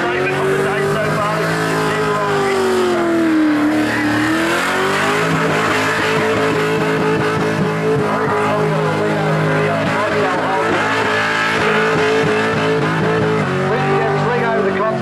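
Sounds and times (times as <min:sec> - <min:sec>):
car engine at high revs: 0:00.0 - 0:15.0
spinning tyres squealing: 0:00.0 - 0:15.0.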